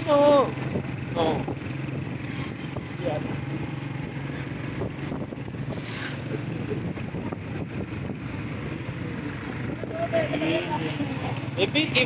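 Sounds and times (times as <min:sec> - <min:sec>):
motorcycle engines running: 0:00.0 - 0:12.0
road noise: 0:00.0 - 0:12.0.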